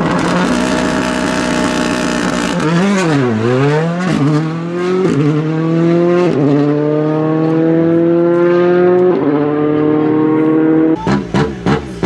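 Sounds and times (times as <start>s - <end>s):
rally car accelerating hard: 0.0s - 12.0s.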